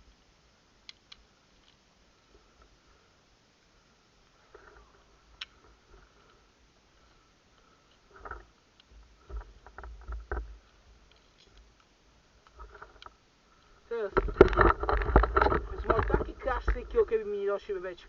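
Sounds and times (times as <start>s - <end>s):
faint rustling: 1.1s - 18.0s.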